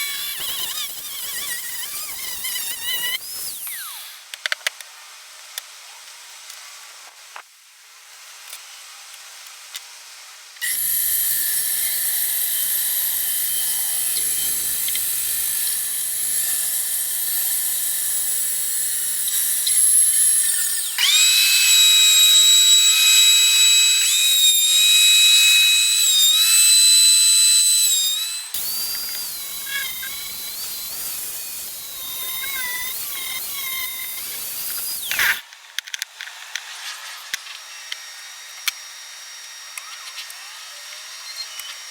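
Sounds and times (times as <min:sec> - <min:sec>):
small power tool whining: 0:00.0 - 0:04.4, 0:10.6 - 0:41.9.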